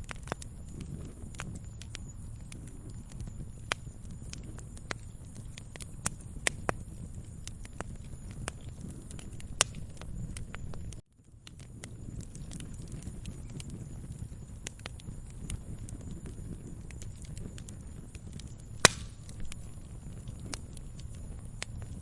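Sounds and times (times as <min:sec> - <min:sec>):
fire popping and snapping: 0:00.0 - 0:22.0
rumble of flames: 0:00.0 - 0:22.0.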